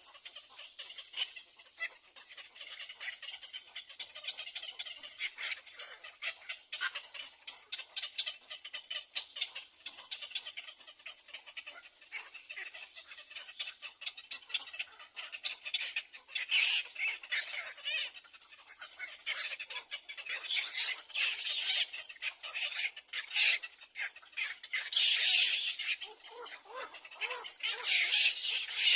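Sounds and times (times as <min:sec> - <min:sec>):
nestling birds chirping: 0:00.0 - 0:28.9.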